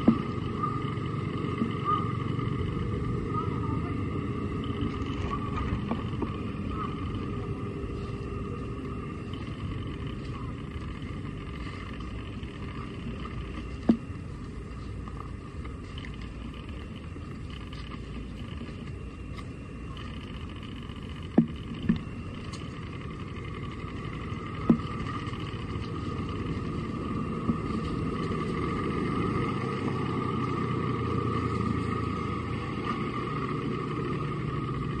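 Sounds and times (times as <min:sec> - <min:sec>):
faint steady hum: 0:00.0 - 0:35.0
low outdoor rumble: 0:00.0 - 0:35.0.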